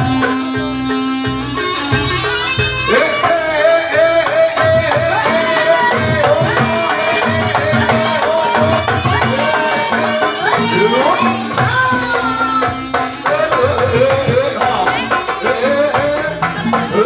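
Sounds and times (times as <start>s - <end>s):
gamelan melody: 0.0s - 17.0s
hand drum beats: 0.0s - 17.0s.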